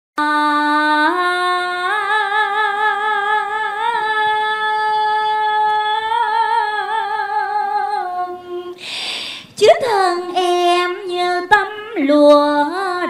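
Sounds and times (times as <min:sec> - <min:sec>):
woman singing unaccompanied: 0:00.2 - 0:08.8, 0:09.5 - 0:13.0.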